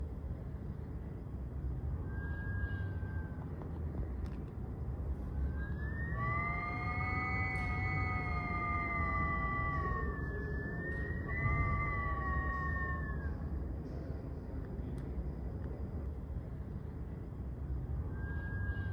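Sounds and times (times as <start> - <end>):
low wind rumble: 0.0 - 18.9
wind whistling through a crack: 0.0 - 18.9.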